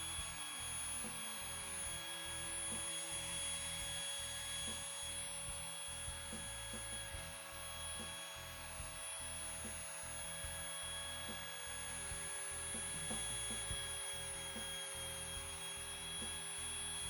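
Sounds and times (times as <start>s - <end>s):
rotary tool whining: 0.0s - 17.0s.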